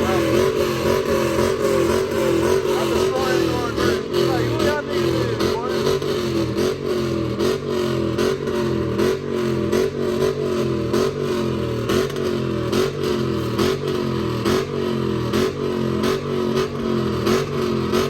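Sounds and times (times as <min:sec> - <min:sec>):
car engine revving: 0:00.0 - 0:18.0
engines idling: 0:00.0 - 0:18.0.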